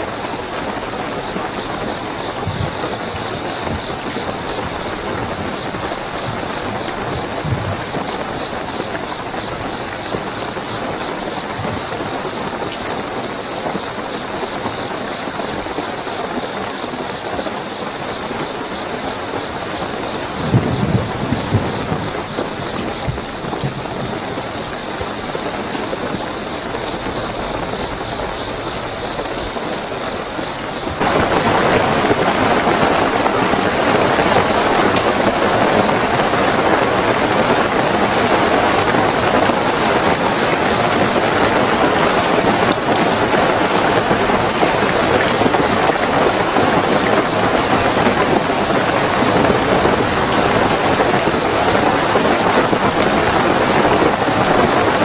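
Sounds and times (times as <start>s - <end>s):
heavy rainfall: 0.0s - 55.0s
high-pitched cricket trill: 0.0s - 55.0s.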